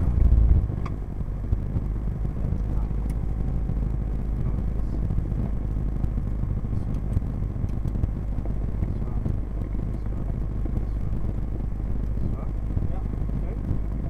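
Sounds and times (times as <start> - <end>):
propeller plane engine idling: 0.0 - 14.0.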